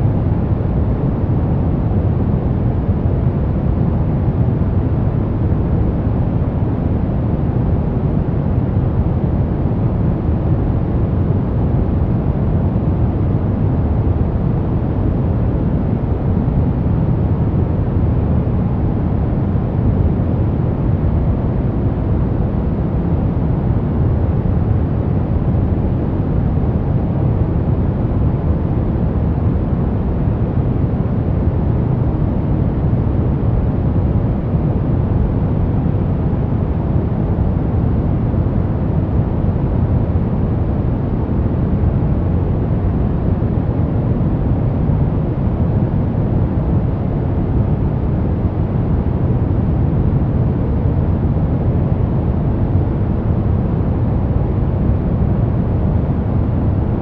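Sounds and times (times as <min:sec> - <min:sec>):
deep even white noise: 0:00.0 - 0:57.0.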